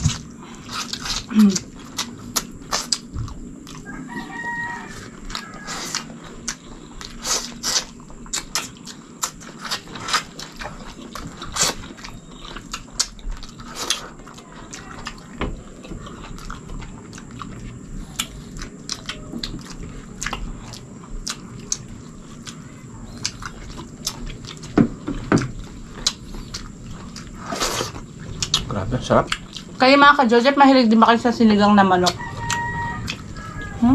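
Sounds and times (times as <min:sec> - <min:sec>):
wet chewing and lip smacks: 0:00.0 - 0:29.8, 0:32.0 - 0:33.8.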